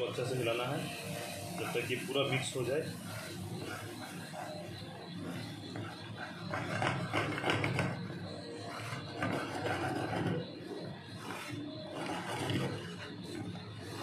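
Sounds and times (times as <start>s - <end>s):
steady low hum: 0.0s - 14.0s
wooden spatula scraping a pan: 0.0s - 14.0s.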